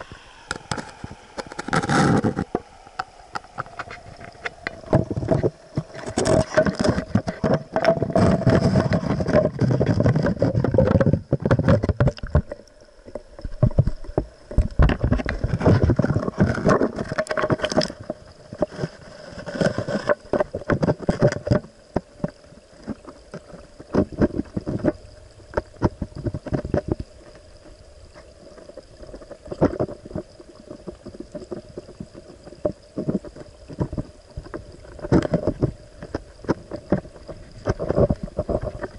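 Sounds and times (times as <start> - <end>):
steady hum: 0.0 - 38.9
underwater stream water: 0.0 - 38.9
underwater knocks and clicks: 0.4 - 38.9.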